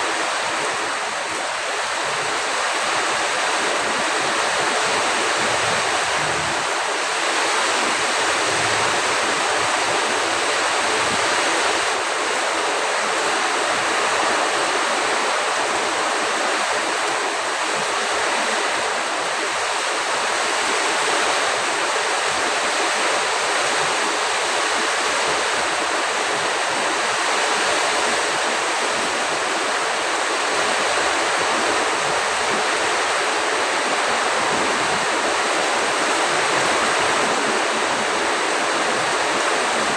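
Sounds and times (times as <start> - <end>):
gusting wind: 0.0 - 39.9
heavy rain pouring: 0.0 - 39.9.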